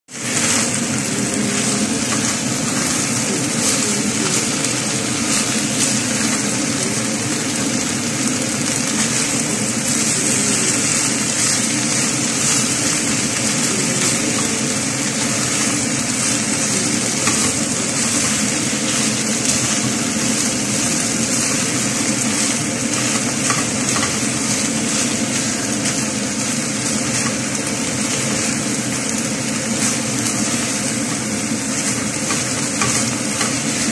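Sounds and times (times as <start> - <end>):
food sizzling in a frying pan: 0.0 - 33.9.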